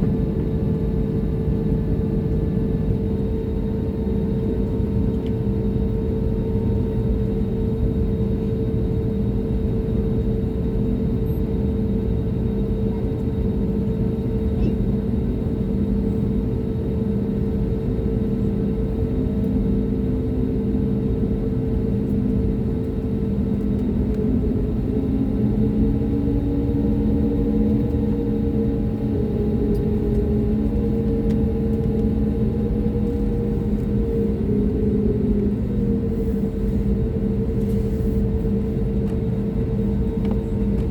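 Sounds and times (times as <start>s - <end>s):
airplane cabin engine drone: 0.0s - 40.9s
constant hum: 0.0s - 40.9s.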